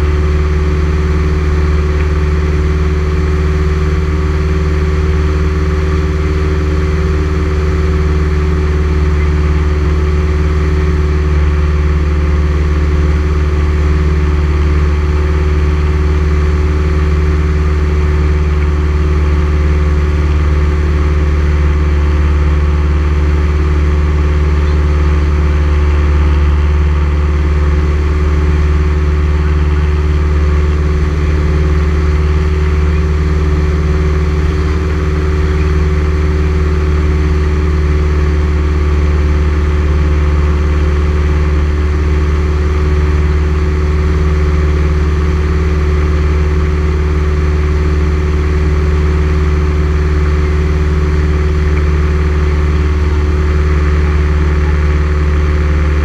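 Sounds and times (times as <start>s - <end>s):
light aircraft engine and propeller drone: 0.0s - 56.0s.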